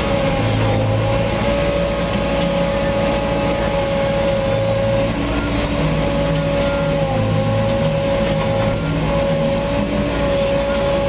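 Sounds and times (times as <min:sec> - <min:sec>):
machine engine running: 0:00.0 - 0:11.0.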